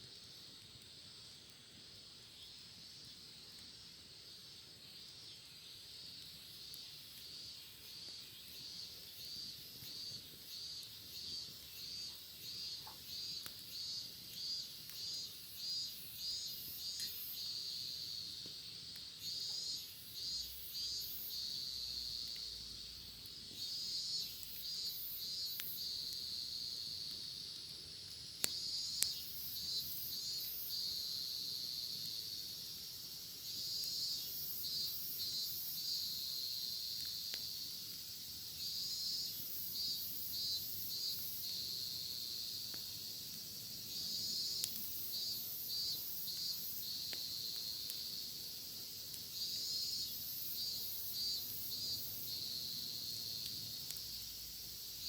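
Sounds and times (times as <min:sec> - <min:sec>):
cicada singing: 0:05.6 - 0:27.5, 0:28.4 - 0:55.0.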